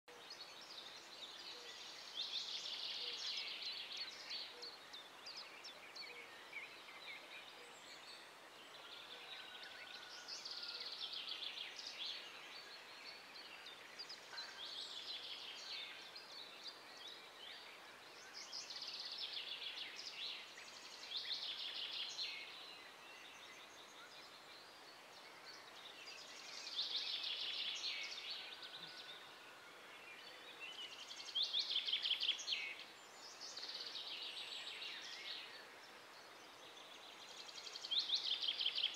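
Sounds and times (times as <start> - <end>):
faint outdoor hiss: 0.1 - 38.9.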